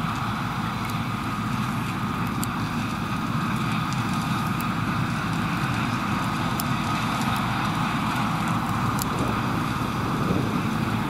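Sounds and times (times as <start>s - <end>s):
farm machinery drone: 0.0s - 11.0s.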